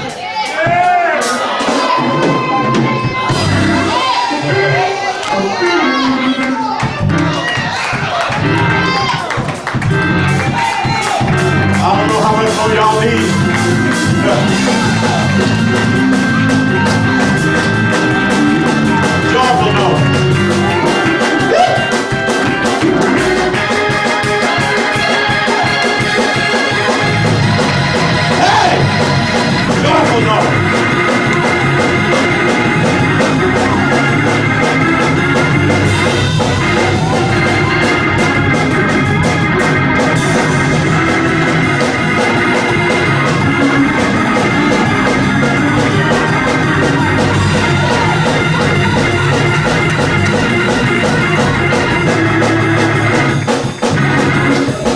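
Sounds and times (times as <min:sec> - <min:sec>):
organ-led church music: 0:00.0 - 0:54.9.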